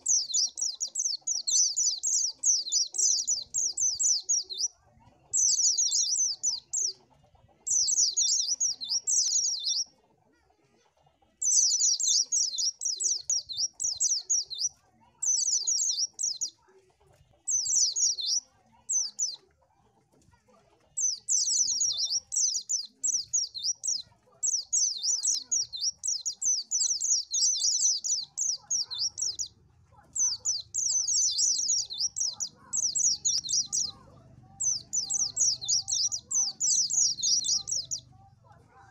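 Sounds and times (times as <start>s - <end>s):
bird twittering chirps: 0.0s - 4.7s, 5.3s - 7.0s, 7.6s - 9.9s, 11.4s - 16.5s, 17.5s - 19.4s, 21.0s - 38.1s.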